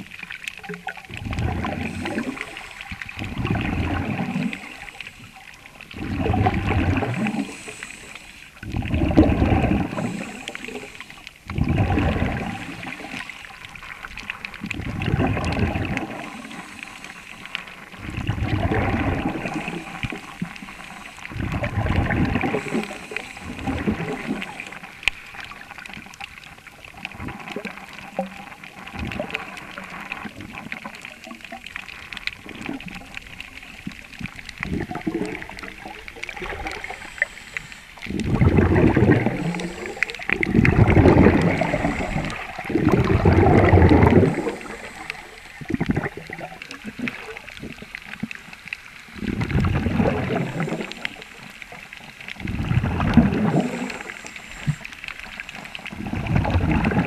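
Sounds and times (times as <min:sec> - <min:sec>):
underwater air bubbles gurgling: 0:00.0 - 0:57.0.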